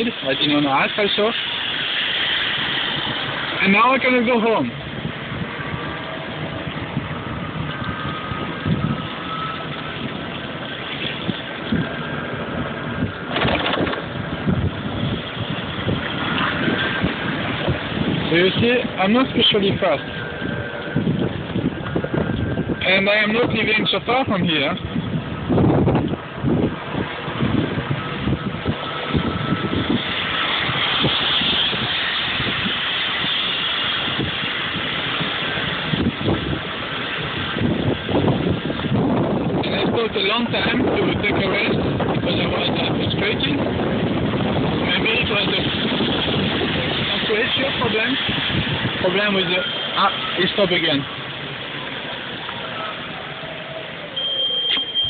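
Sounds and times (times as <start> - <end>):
motorcycle road and wind noise: 0.0 - 55.0.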